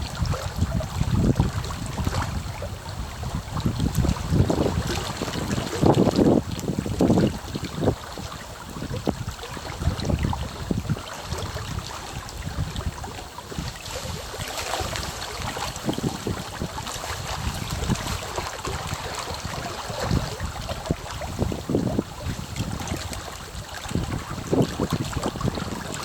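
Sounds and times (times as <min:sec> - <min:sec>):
small waves lapping: 0:00.0 - 0:26.0.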